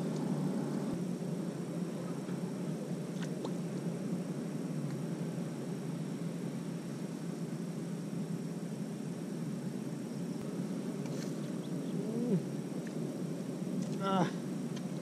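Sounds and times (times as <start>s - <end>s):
faint insect tones: 0.0s - 15.0s
low rumbling hiss: 0.0s - 15.0s.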